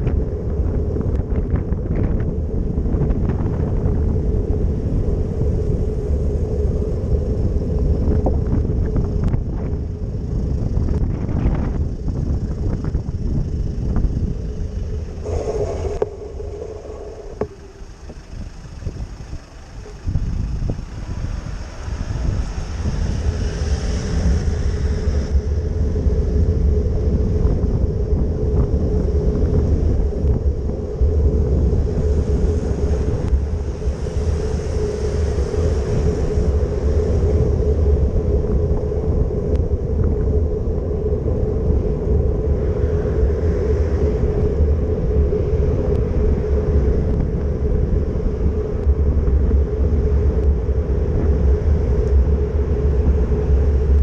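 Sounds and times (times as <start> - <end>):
steady hum: 0.0 - 20.4, 24.2 - 54.0
wind buffeting microphone: 0.0 - 54.0.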